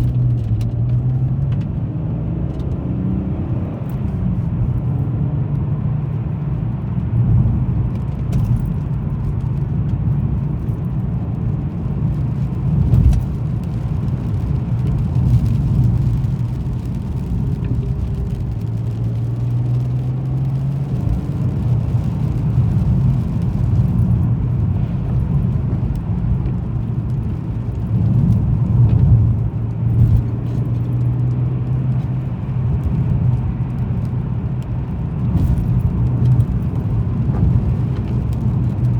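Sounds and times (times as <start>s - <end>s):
car engine hum: 0.0s - 38.9s.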